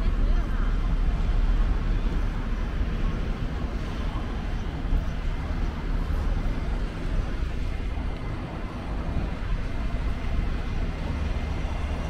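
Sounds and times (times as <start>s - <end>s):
motor traffic rumble: 0.0s - 12.0s.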